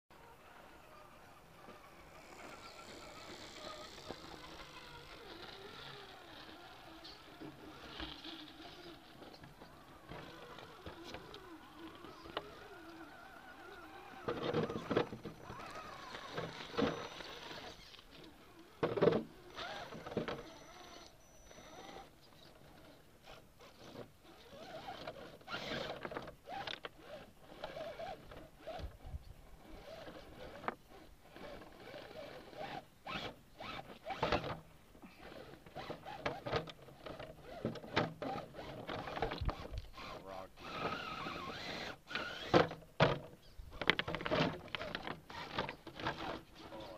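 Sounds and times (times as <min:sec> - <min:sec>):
electric motor and gears whirring: 0:00.2 - 0:46.9.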